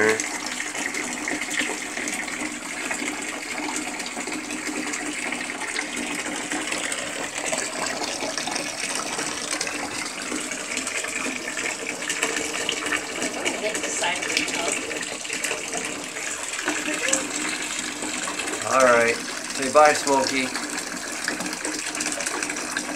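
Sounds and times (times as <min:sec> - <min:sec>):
faucet water splashing in tub: 0:00.0 - 0:22.9.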